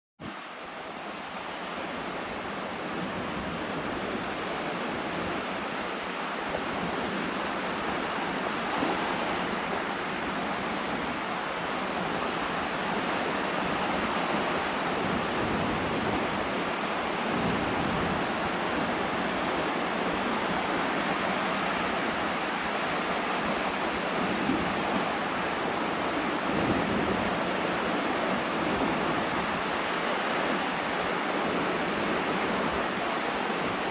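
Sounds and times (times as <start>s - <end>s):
waves breaking on shore: 0.2s - 33.9s
wind buffeting microphone: 1.8s - 33.9s.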